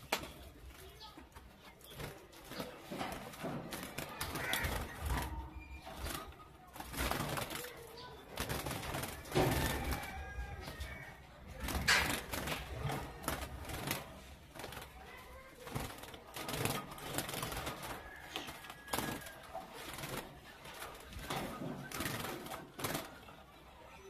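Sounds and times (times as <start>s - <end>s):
birds fluttering: 0.0s - 24.0s
wire cage rattling: 2.0s - 23.2s.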